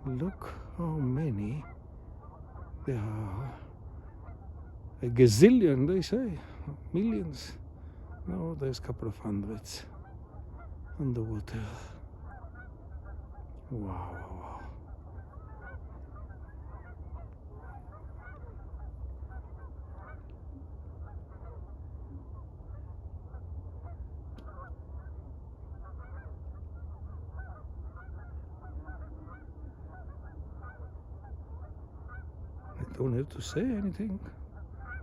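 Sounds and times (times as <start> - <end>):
geese honking: 0.0 - 35.0
steady low rumble: 0.0 - 35.0.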